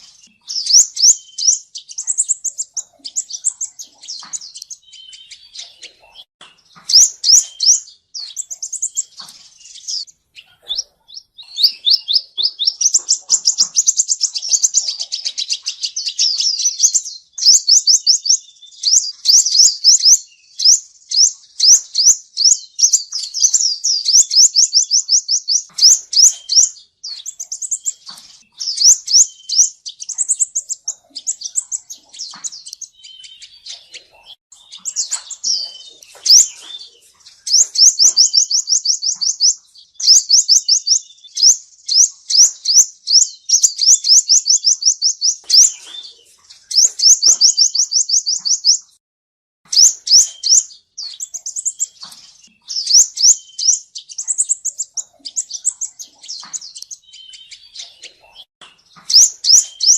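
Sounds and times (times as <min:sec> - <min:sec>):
bird singing rapid trills: 0:00.0 - 0:49.0, 0:49.7 - 0:59.9.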